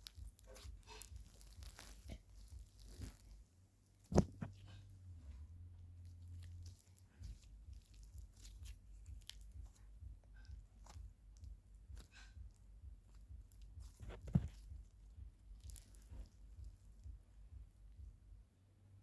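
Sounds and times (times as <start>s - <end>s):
slime squishing by hand: 0.0s - 18.2s.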